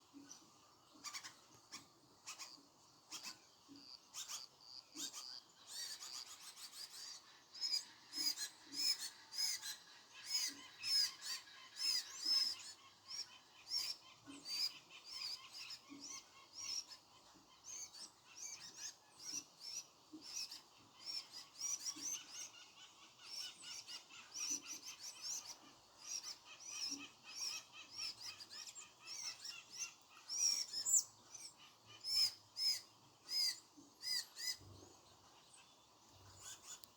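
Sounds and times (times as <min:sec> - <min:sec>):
birds chirping and trilling: 0:00.1 - 0:36.9.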